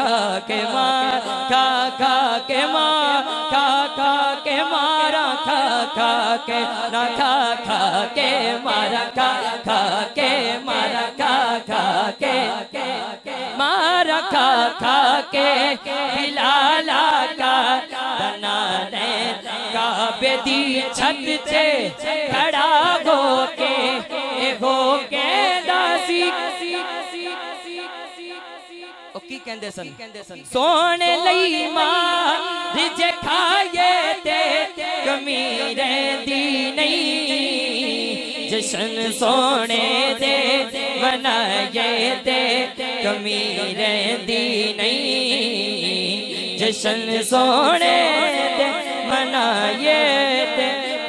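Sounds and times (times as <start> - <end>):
man singing into microphone: 0.0 - 51.0.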